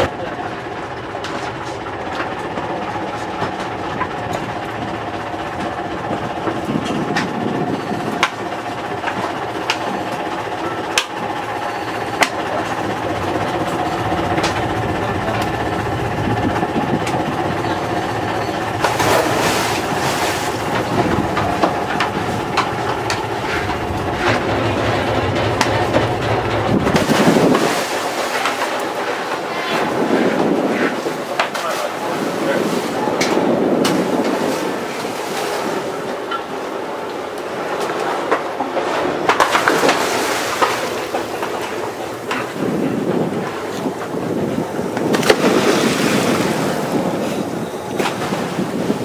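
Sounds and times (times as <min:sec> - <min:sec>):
boat engine droning: 0:00.0 - 0:49.0
scuba tanks knocking and clanking: 0:00.0 - 0:49.0.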